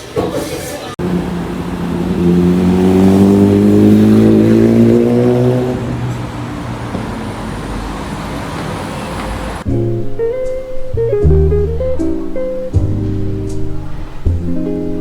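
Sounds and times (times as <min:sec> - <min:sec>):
vehicle engine accelerating: 0:01.0 - 0:15.0.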